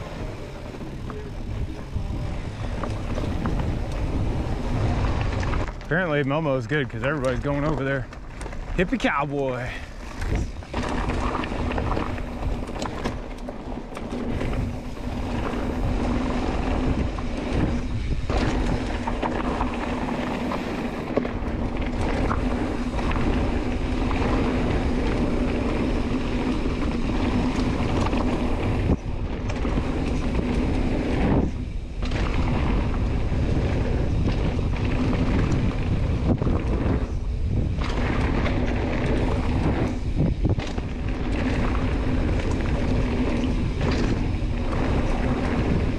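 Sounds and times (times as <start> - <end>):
bike tyres rumbling over rock: 0.0 - 45.9
wind on microphone: 0.0 - 45.9.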